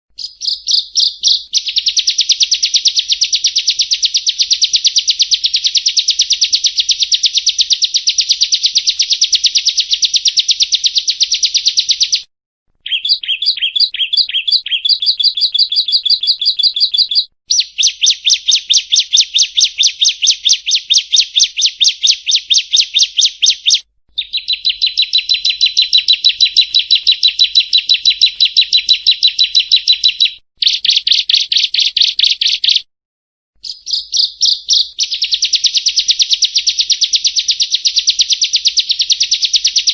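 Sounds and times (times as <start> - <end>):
bird song rapid high chirps: 0.1 - 32.9, 33.6 - 39.9.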